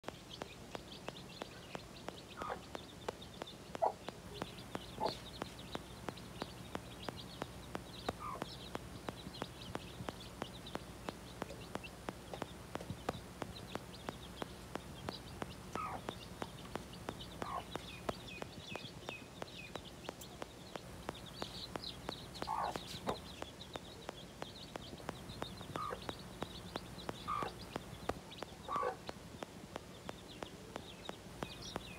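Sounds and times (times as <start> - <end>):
chicks peeping: 0.0 - 31.9
faint regular ticking: 0.0 - 31.9
hen clucking: 0.8 - 20.4, 21.0 - 24.1, 24.7 - 29.5.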